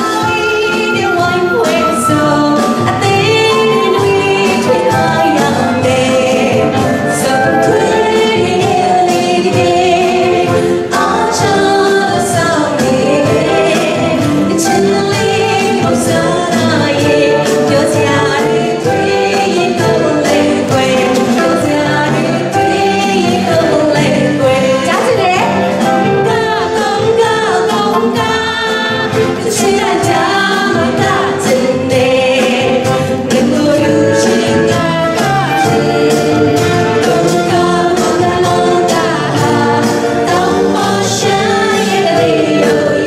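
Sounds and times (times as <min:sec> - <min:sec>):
drum kit beat: 0:00.0 - 0:43.0
woman singing lead: 0:00.0 - 0:43.0.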